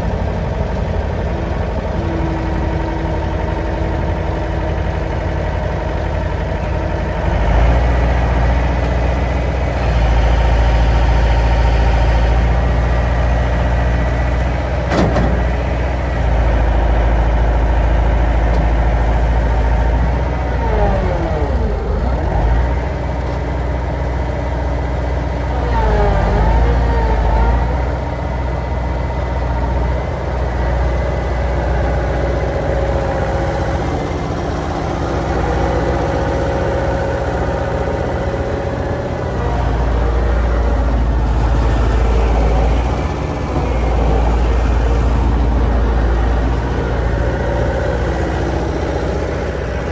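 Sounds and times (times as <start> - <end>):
skid steer engine revving: 0.0 - 49.9.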